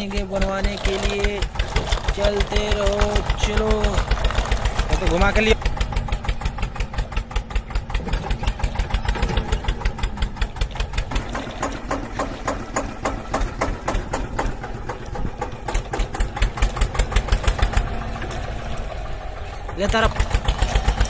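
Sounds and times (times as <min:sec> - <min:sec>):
tractor engine chugging: 0:00.0 - 0:21.0.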